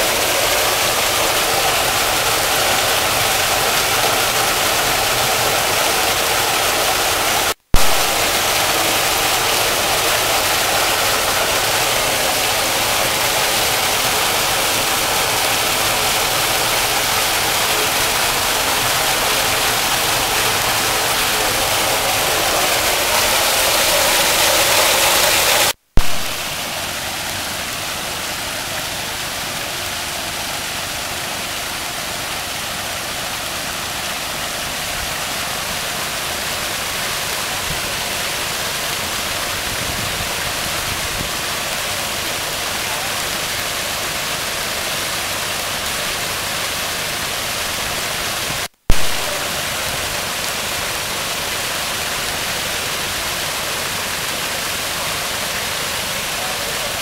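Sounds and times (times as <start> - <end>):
waterfall splashing into a pond: 0.0 - 57.0.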